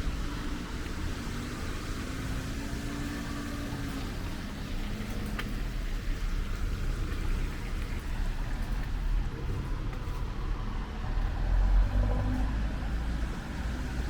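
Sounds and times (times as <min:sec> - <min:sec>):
vehicle passing on wet road: 0:00.0 - 0:14.0.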